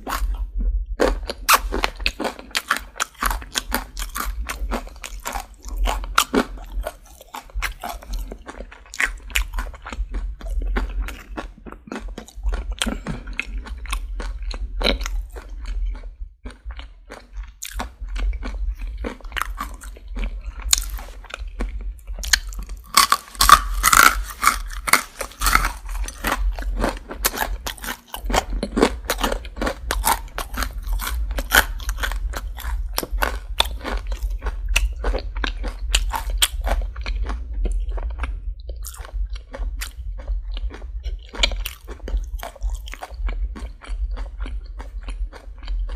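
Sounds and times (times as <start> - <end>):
chewing crunchy fried chicken: 0.0 - 45.9
faint low hum: 0.0 - 45.9.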